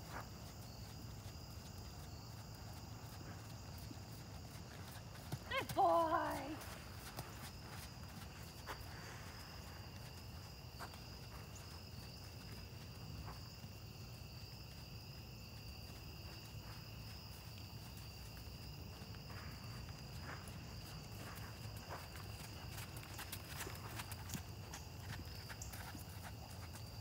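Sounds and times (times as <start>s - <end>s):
horse hooves on sand: 0.0s - 27.0s
insects chirring: 0.0s - 27.0s.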